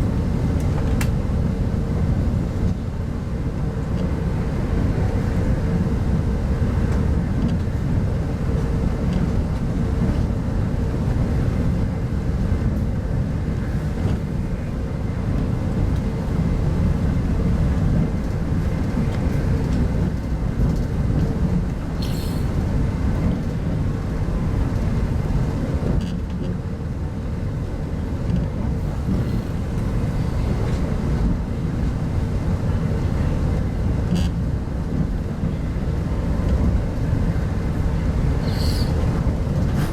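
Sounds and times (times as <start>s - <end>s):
train coach rumbling: 0.0s - 39.9s.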